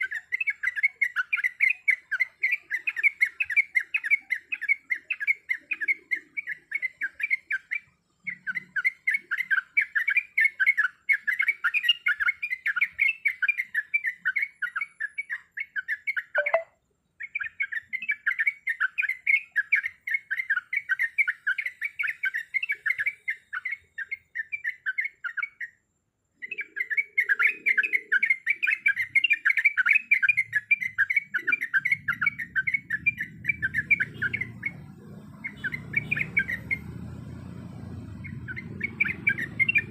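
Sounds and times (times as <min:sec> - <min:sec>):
bird chattering: 0:00.0 - 0:25.8, 0:26.4 - 0:37.1, 0:37.8 - 0:39.9.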